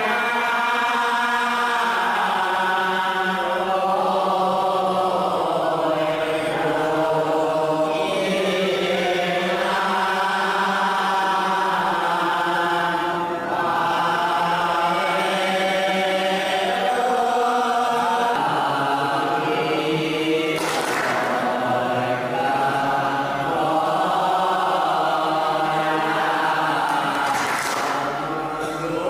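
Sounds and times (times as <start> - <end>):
men chanting a hymn: 0.0 - 29.0.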